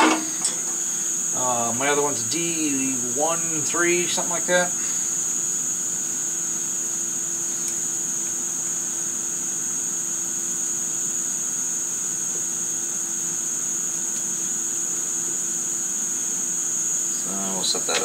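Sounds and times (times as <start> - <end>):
electrical hum with whine: 0.0 - 18.0.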